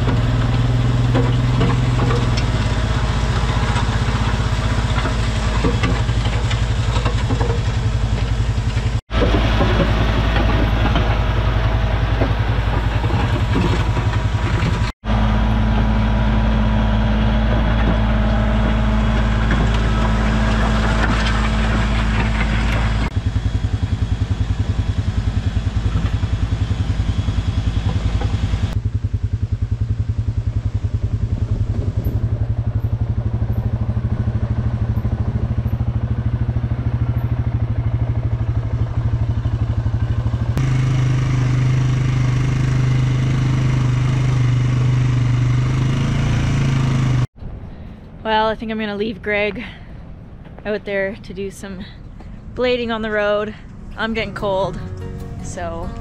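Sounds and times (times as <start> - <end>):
tractor engine running under load: 0.0 - 47.6, 52.0 - 56.0.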